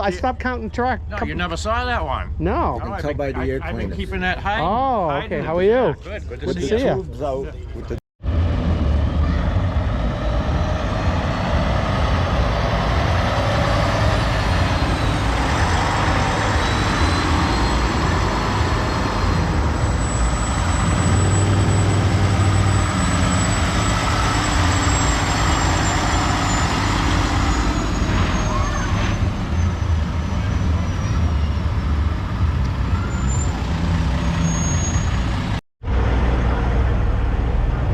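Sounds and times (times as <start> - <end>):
diesel truck engine rumbling: 0.0 - 37.9.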